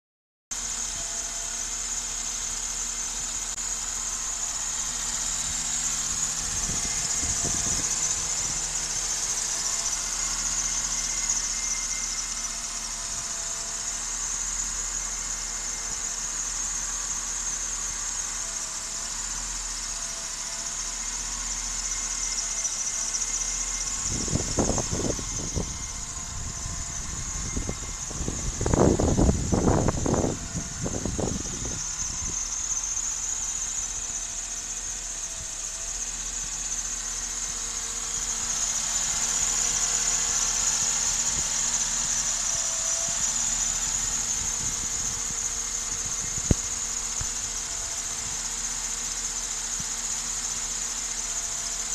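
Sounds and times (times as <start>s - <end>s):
petrol engine idling: 0.6s - 51.9s.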